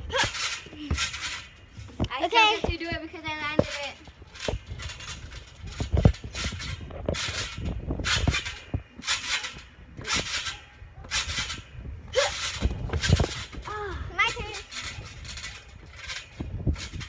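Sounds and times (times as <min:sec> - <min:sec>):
trampoline springs bouncing: 0:00.0 - 0:17.0.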